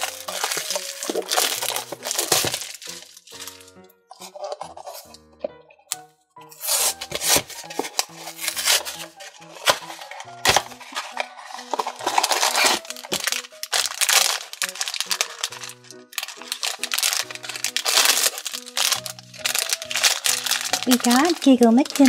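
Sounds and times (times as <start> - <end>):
cardboard box tearing: 0.0 - 3.4, 6.6 - 22.0
foil bag crinkling: 0.0 - 5.1, 6.6 - 22.0
background music: 0.0 - 22.0.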